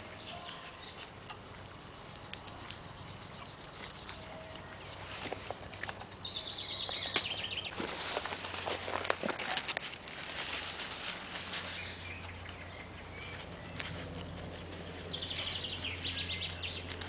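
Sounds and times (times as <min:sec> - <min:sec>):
leaves and stems rustling: 0:00.0 - 0:17.0.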